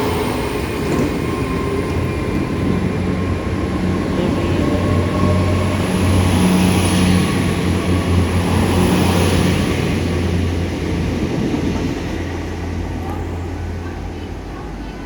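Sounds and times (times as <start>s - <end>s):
train engine hum: 0.0s - 15.0s.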